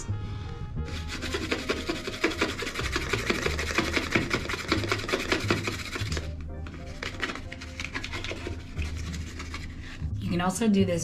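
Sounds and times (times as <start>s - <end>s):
cardboard roll scraping on tile: 0.8s - 10.0s.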